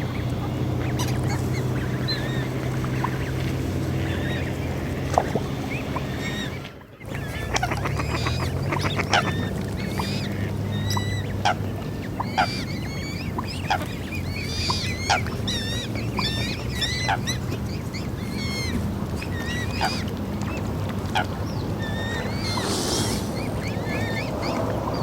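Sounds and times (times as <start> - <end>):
swans honking: 0.0 - 25.0.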